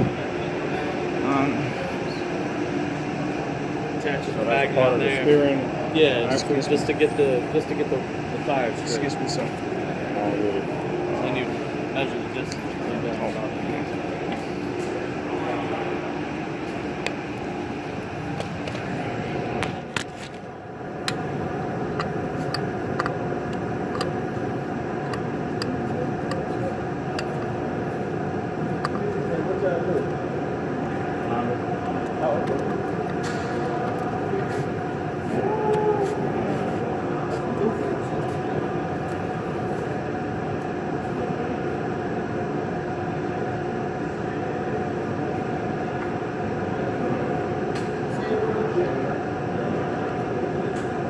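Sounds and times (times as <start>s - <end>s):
machinery droning: 0.0s - 51.0s
workshop background hum: 0.0s - 51.0s.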